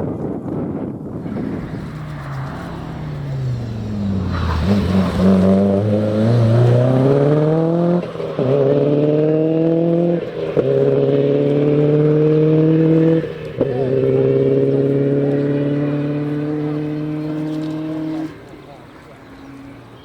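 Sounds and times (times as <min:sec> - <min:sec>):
rally car engine revving: 0:01.1 - 0:20.0.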